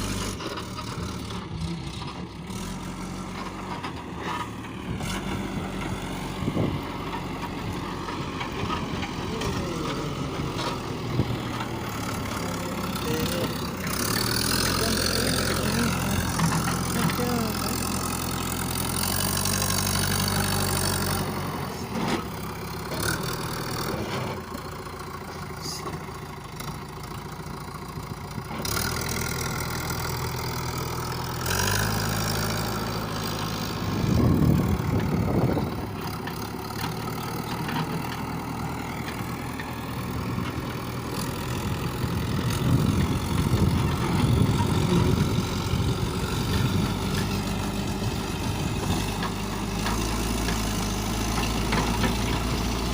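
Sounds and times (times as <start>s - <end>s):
diesel engines idling: 0.0s - 52.9s.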